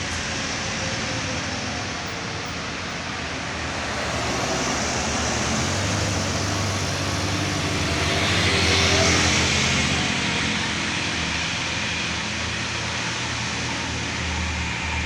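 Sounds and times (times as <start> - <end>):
heavy vehicle engine hum: 0.1 - 15.0.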